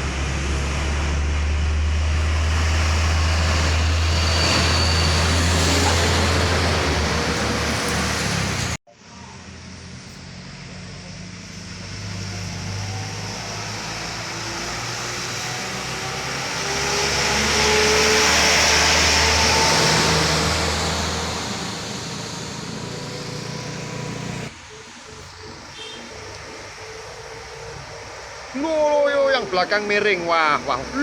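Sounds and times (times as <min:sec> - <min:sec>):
vehicle passing by: 0:00.0 - 0:31.0.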